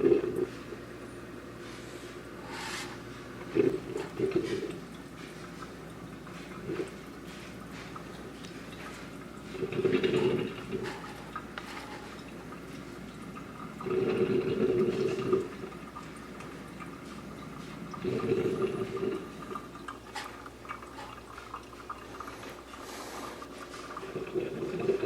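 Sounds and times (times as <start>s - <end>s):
coffee maker water gurgling: 0.0s - 25.0s
low steady bubbling: 0.0s - 25.0s.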